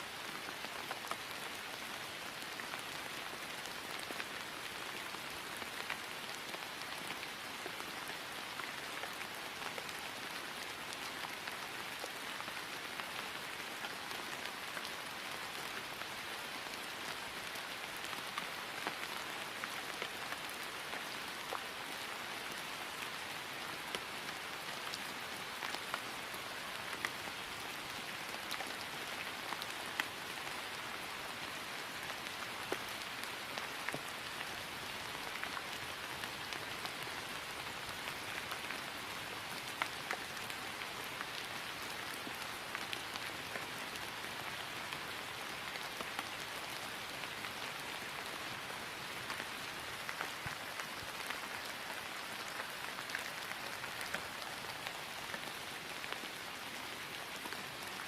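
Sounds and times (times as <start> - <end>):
rain falling on grass: 0.0 - 58.0.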